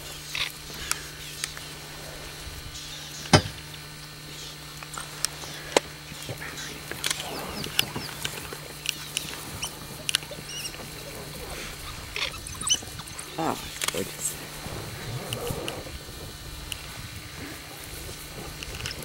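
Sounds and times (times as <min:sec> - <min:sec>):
low steady hum: 0:00.0 - 0:19.0
wild dogs twittering and squeaking: 0:00.2 - 0:19.0.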